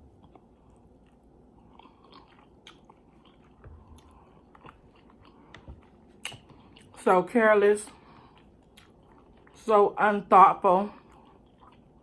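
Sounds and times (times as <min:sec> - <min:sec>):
person chewing food: 0:00.0 - 0:07.0, 0:07.9 - 0:09.6, 0:10.9 - 0:12.0.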